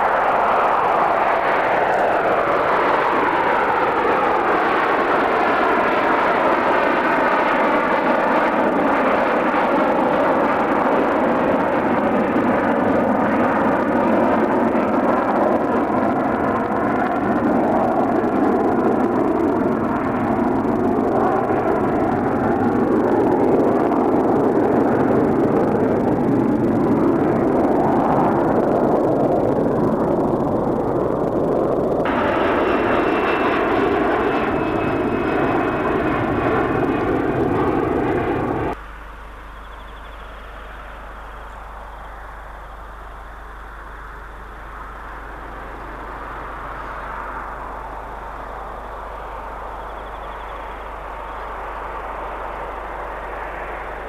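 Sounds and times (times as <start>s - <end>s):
distant jet approaching: 0.0s - 54.0s
high jet whine: 0.0s - 54.0s
jet engine roar: 0.0s - 54.0s.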